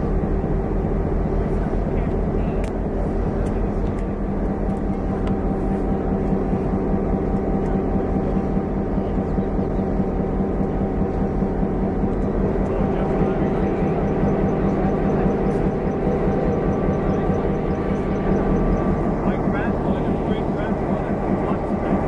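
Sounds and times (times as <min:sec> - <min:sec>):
diesel locomotive idling: 0:00.0 - 0:22.0.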